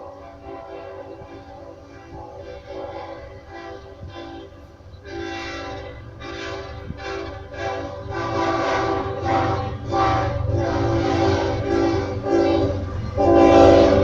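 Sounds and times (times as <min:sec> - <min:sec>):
locomotive air horn blasts: 0:00.0 - 0:14.0
locomotive engine rumbling: 0:00.0 - 0:14.0.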